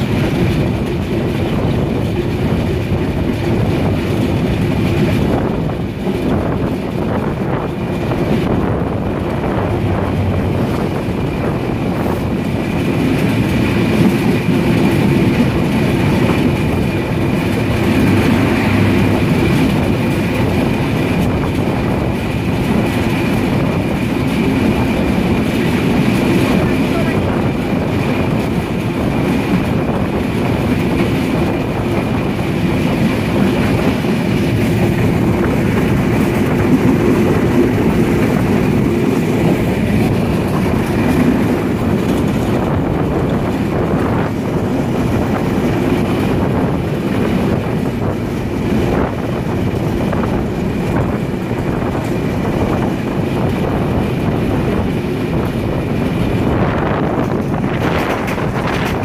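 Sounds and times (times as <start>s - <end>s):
train wheels rumbling on rails: 0.0s - 59.0s
wind noise: 0.0s - 59.0s.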